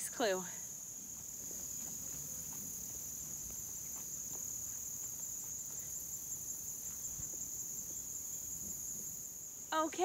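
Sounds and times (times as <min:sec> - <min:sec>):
insect chorus trilling: 0:00.0 - 0:10.0.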